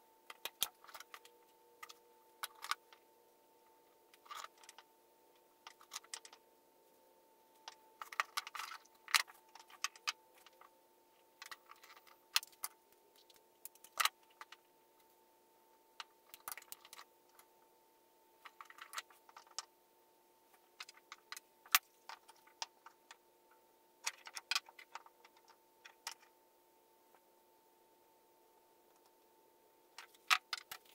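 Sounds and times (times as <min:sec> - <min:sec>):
faint steady hum: 0:00.0 - 0:30.9.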